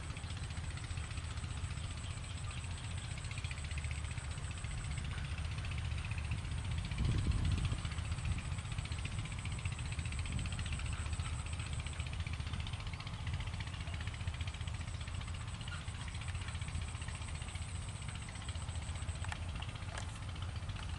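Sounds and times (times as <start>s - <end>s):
distant tractor engine rumble: 0.0s - 20.9s.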